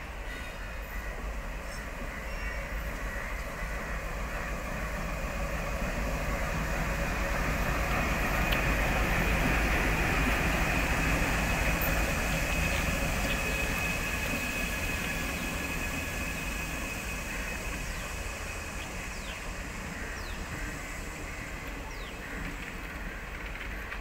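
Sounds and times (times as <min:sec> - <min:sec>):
diesel locomotives passing: 0:00.0 - 0:24.0
steady high whine: 0:00.1 - 0:22.3.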